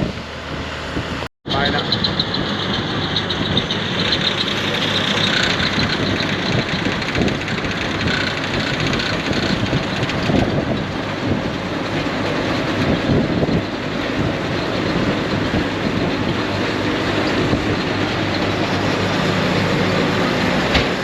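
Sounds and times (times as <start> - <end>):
combine harvester clattering: 0.0 - 21.0.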